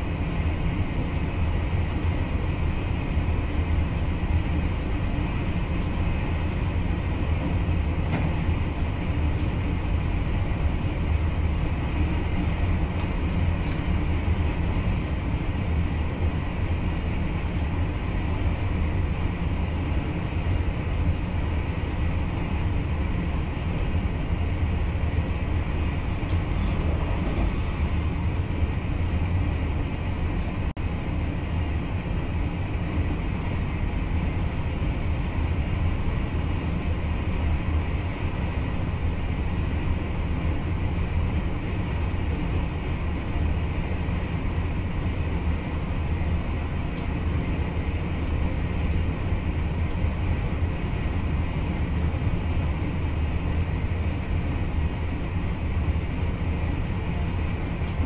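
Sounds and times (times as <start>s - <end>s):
train running low rumble: 0.0s - 58.0s.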